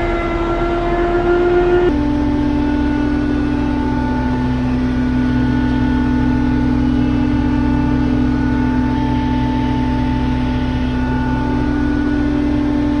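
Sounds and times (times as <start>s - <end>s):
constant whine: 0.0s - 13.0s
tractor engine running: 0.0s - 13.0s.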